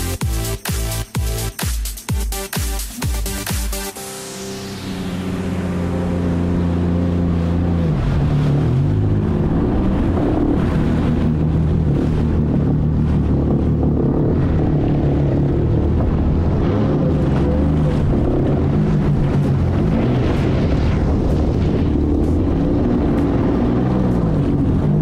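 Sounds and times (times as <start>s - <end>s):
jet ski engine at speed: 0.0s - 25.0s.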